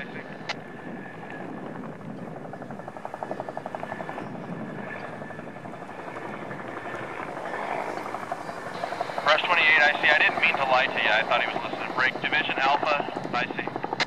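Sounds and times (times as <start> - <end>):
helicopter engine noise: 0.0 - 14.0
helicopter rotor beating: 0.0 - 14.0.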